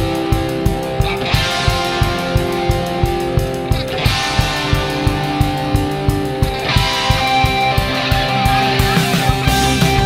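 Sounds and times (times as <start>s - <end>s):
rock music with guitar: 0.0s - 10.0s
steady drum beat: 0.0s - 10.0s.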